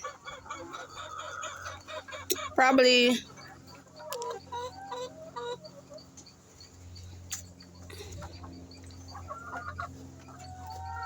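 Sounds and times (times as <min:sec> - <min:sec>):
hens clucking: 0:00.0 - 0:11.0
steady low hum: 0:01.8 - 0:11.0.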